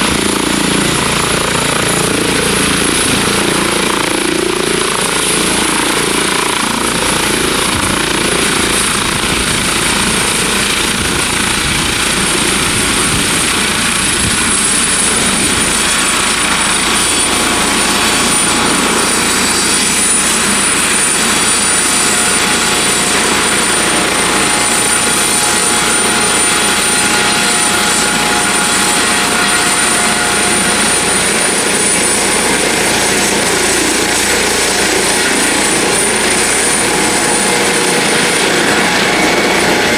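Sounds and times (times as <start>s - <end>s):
helicopter rotor and engine: 0.0s - 39.9s
high turbine whine: 0.0s - 39.9s.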